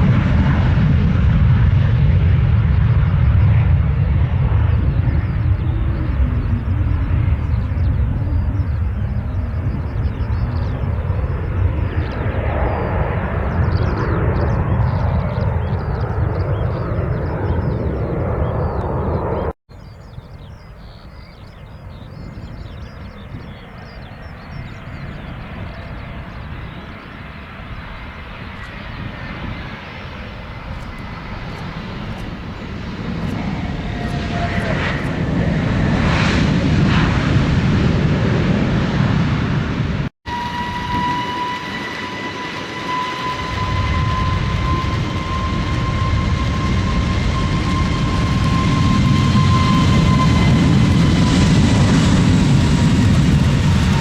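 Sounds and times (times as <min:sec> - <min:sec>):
aircraft engine whine: 0:00.0 - 0:54.0
aircraft engines rumbling: 0:00.0 - 0:54.0.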